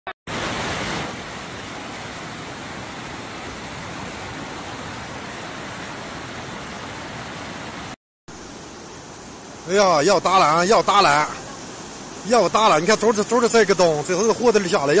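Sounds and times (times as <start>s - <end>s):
floodwater rushing: 0.3s - 15.0s.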